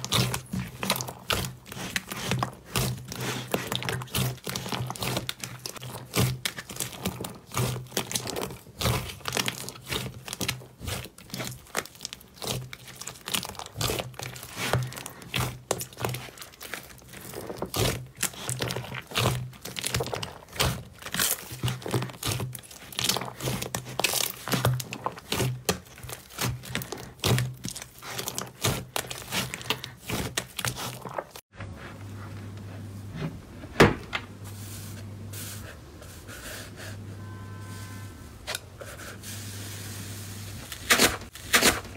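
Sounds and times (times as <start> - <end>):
slime squelching and crackling: 0.0 - 32.6, 40.4 - 41.9.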